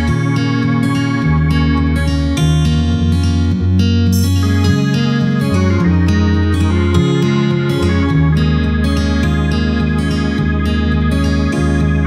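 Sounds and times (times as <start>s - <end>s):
low bass line: 0.0s - 12.0s
plucked guitar: 0.0s - 12.0s.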